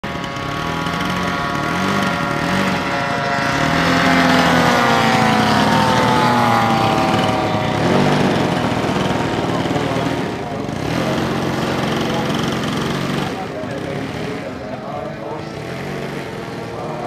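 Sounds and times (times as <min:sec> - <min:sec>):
lower engine tone wavering: 0:00.0 - 0:17.0
model airplane engines buzzing: 0:00.0 - 0:17.0.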